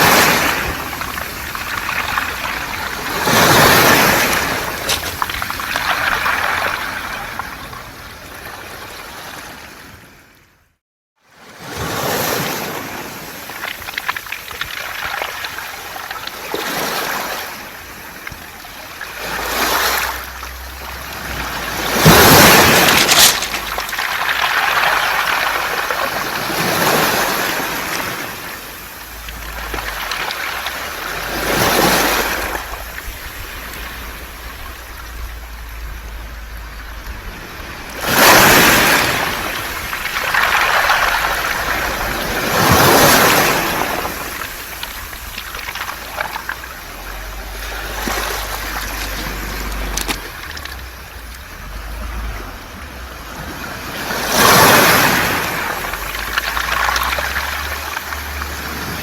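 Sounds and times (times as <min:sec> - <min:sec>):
waves washing over pebbles: 0:00.0 - 0:10.2, 0:11.5 - 0:59.0.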